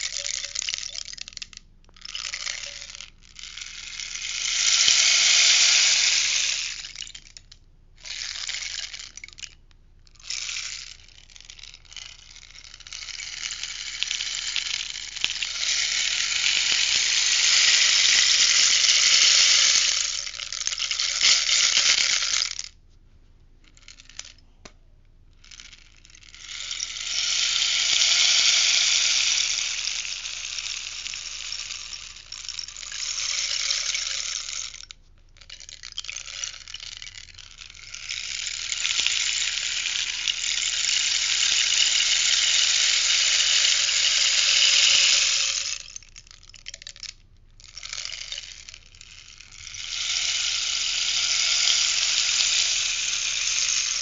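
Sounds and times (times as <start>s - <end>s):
rainstick pellets trickling: 0.0s - 22.8s, 23.7s - 24.6s, 25.4s - 54.0s.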